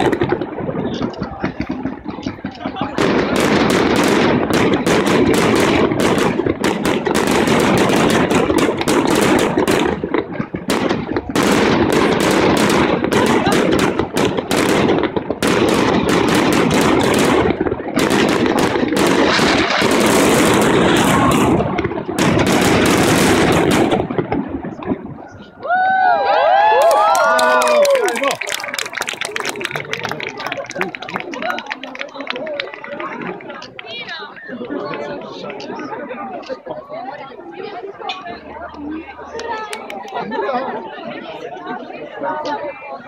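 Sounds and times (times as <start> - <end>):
fireworks bangs and crackles: 0.0 - 40.1.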